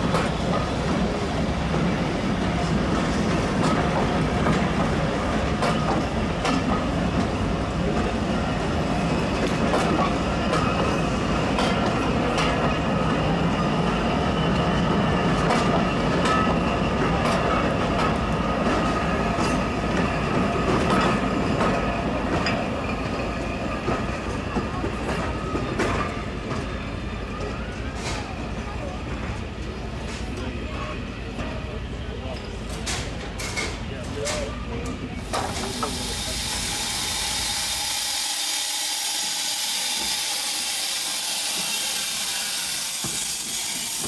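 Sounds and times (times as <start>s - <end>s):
train wheels clicking over rail joints: 0.0s - 8.2s, 8.8s - 12.9s, 14.7s - 26.8s, 32.4s - 44.0s.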